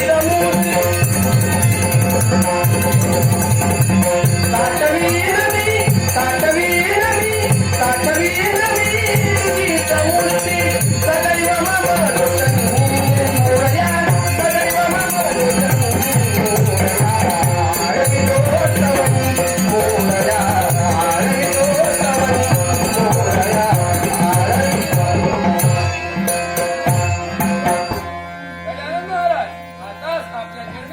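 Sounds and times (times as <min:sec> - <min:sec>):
wavering devotional melody: 0:00.0 - 0:30.9.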